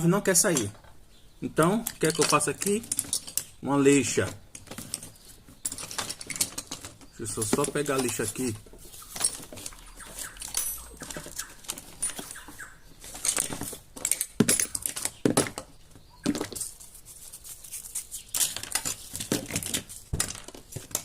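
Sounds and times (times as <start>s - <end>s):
tools clinking and rattling: 0.0s - 1.0s, 1.6s - 16.9s, 18.1s - 21.0s.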